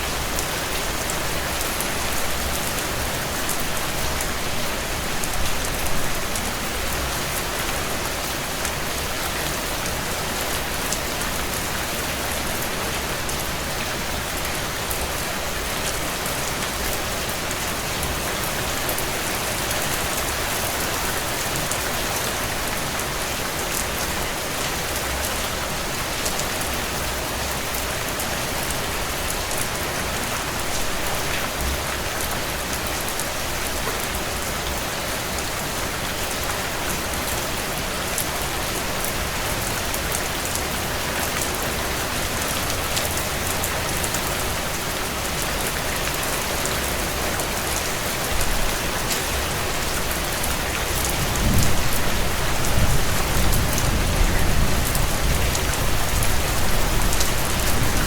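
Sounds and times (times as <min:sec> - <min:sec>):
heavy rain on window panes: 0:00.0 - 0:58.0.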